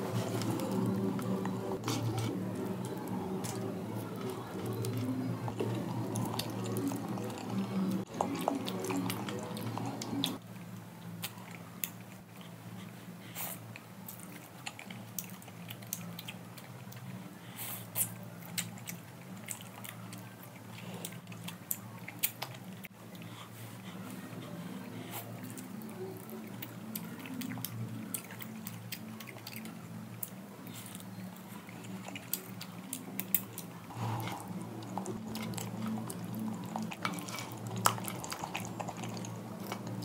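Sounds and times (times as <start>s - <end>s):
person chewing food: 0.0s - 24.5s, 25.1s - 40.0s
low steady hum: 0.0s - 40.0s.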